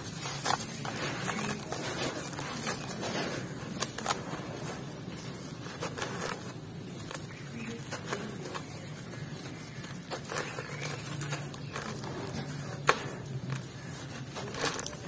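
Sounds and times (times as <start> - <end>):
crunchy clicks: 0.0 - 15.0.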